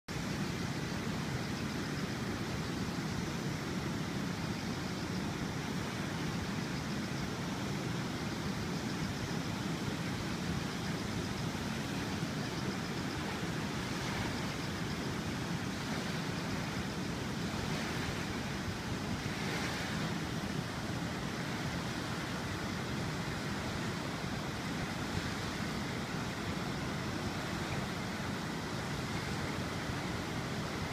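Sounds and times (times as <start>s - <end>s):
river rushing over weir: 0.1s - 30.9s.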